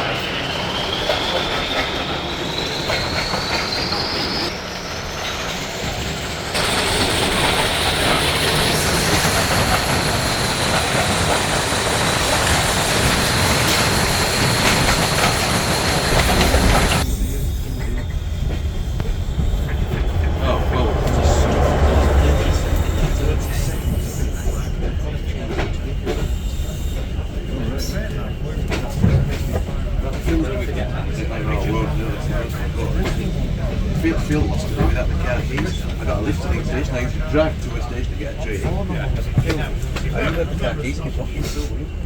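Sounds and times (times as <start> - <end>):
high wheel squeal: 0.0 - 37.9
train rail and wheel noise: 0.0 - 42.0.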